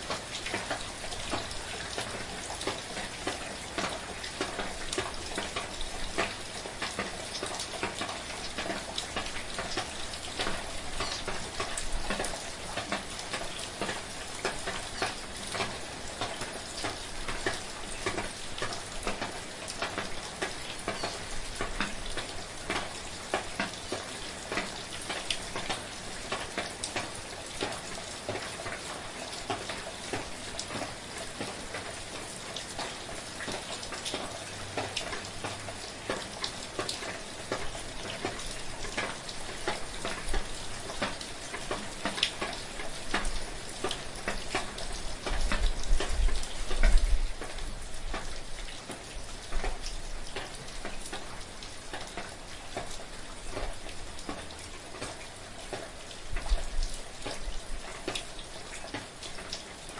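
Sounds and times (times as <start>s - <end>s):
raindrops ticking on a surface: 0.0s - 59.9s.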